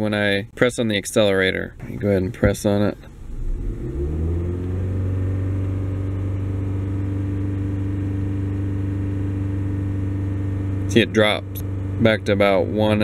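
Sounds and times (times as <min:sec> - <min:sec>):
car engine revving: 0:01.8 - 0:12.9.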